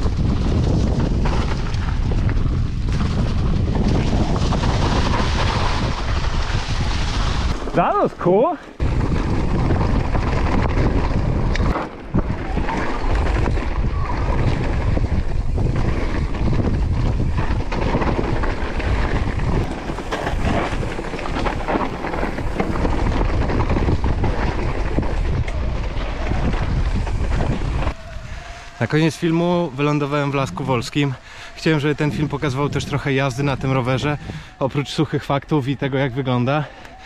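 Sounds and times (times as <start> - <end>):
bike rattling: 0.0 - 37.0
tyre noise on rough trail: 0.0 - 37.0
wind buffeting microphone: 0.0 - 37.0.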